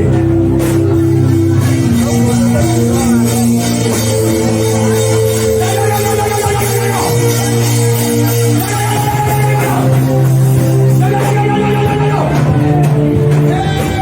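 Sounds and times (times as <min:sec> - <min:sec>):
worship band music: 0:00.0 - 0:14.0.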